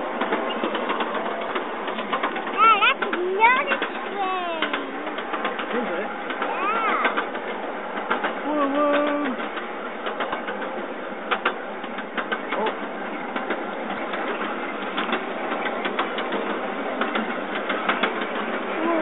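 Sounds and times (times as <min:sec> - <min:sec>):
miniature train rattling on track: 0:00.0 - 0:19.0.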